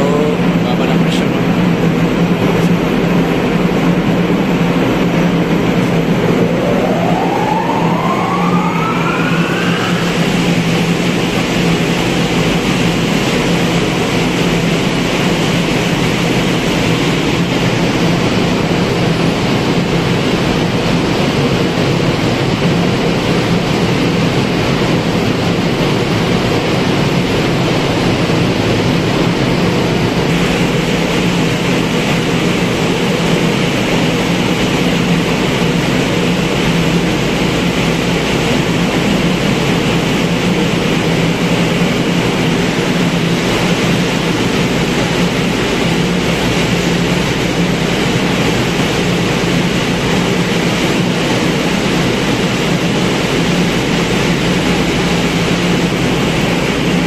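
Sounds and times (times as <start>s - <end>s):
engine room machinery hum: 0.0s - 57.0s
fan spinning up with rising whine: 0.0s - 57.0s.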